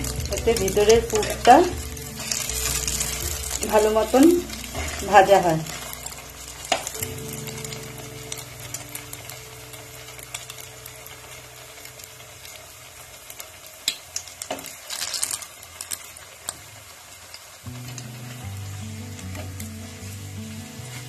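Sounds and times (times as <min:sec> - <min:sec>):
deep-frying sizzle with crackles: 0:00.0 - 0:21.0.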